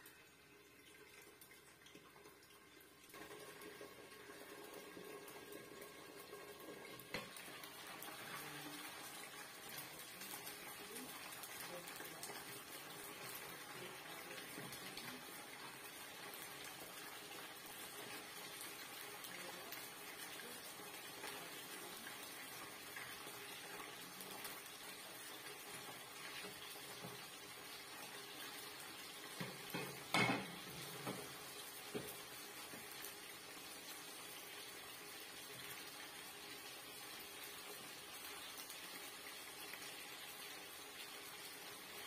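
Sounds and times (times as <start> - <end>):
clams sizzling in a wok: 7.0 - 42.0.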